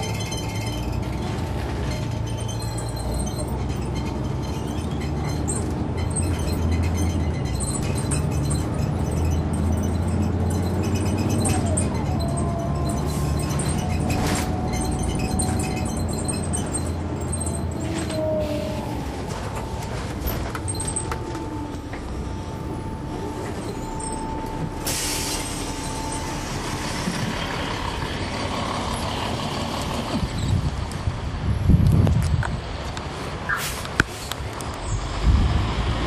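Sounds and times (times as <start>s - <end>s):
bus diesel engine running: 0.0s - 36.0s.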